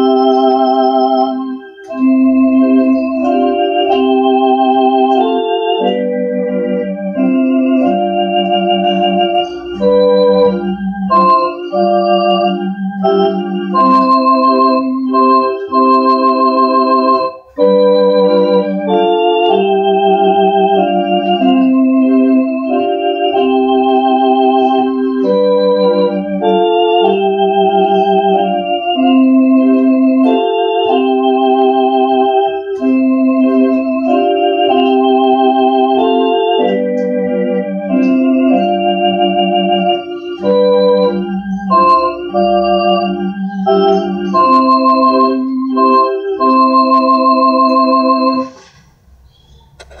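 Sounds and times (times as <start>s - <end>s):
electronic organ playing: 0.0s - 50.0s.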